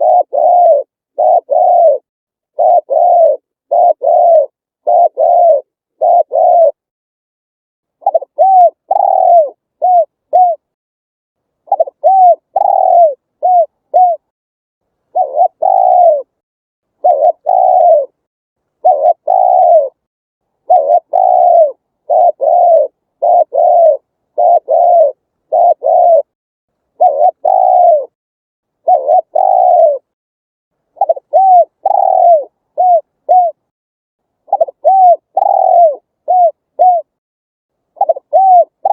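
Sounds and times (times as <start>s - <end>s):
dove cooing: 0.0s - 6.9s, 8.0s - 10.7s, 11.7s - 14.3s, 15.1s - 16.4s, 17.0s - 20.0s, 20.6s - 26.4s, 27.0s - 28.2s, 28.8s - 30.2s, 31.0s - 33.7s, 34.5s - 37.2s, 38.0s - 38.9s.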